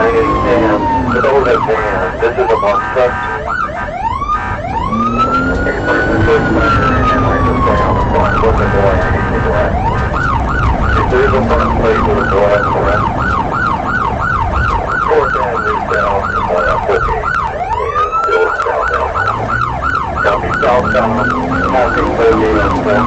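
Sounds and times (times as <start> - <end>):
engine and road noise: 0.0 - 23.0
police siren yelping: 0.0 - 23.0.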